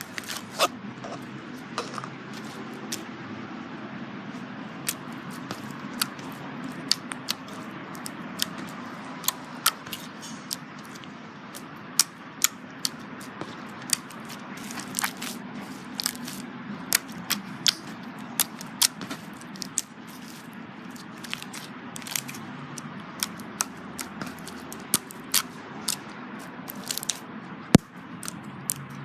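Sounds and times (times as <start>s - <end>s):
crunchy slime crackling: 4.7s - 29.0s.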